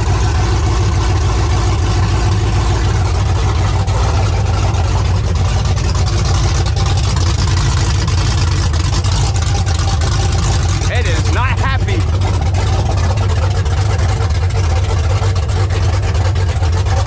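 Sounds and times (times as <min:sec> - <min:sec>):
pickup truck engine idling: 0:00.0 - 0:17.0.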